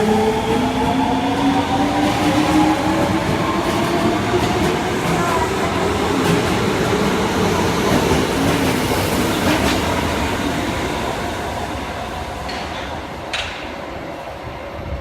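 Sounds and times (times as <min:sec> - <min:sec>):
train rolling along track: 0:00.0 - 0:15.0.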